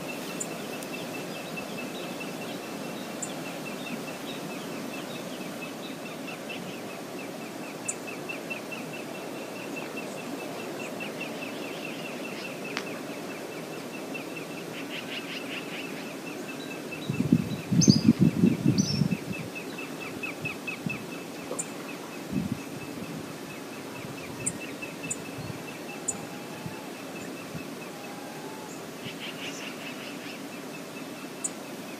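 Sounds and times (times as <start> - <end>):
river water rushing: 0.0 - 18.4, 19.2 - 31.9.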